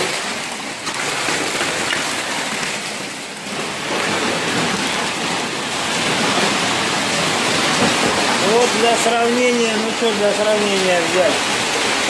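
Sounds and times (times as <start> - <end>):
hailstones clattering on hard surfaces: 0.0 - 12.0.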